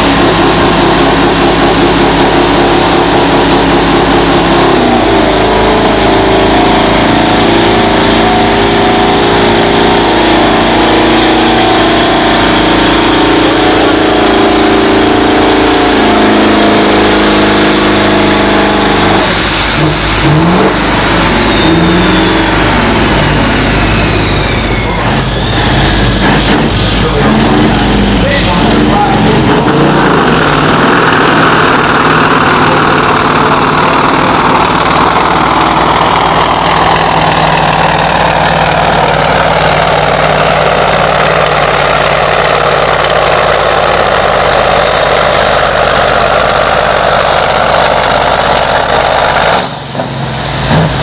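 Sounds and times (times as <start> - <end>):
tractor engine revving: 0.0 - 51.0
turbocharger whine: 0.0 - 51.0.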